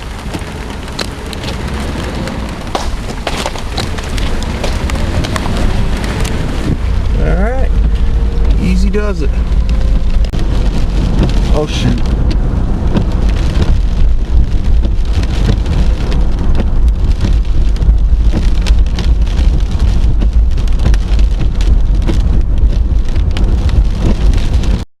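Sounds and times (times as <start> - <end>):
strong low rumble: 0.0 - 24.8
heavy rain patter: 0.0 - 24.9.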